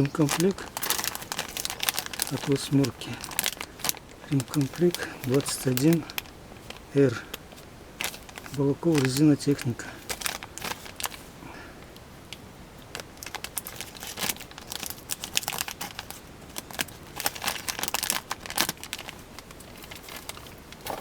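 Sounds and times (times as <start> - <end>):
plastic packaging crinkling: 0.0 - 12.0, 12.8 - 21.0.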